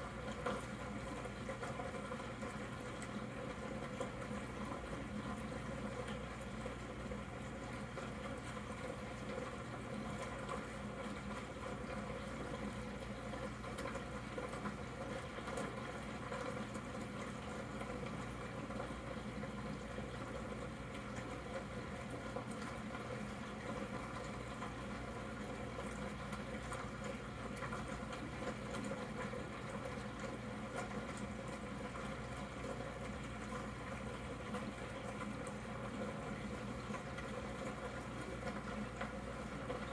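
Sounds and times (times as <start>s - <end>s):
aquarium air bubbler bubbling: 0.0s - 39.9s.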